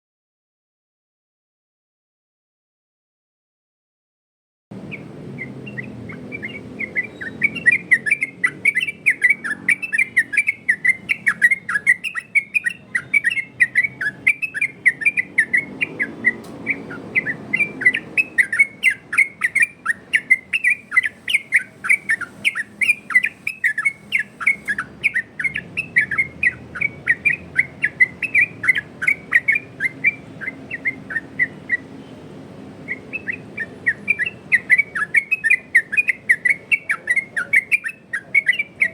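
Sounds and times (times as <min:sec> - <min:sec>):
bird singing rapid chirps: 0:04.7 - 0:38.9.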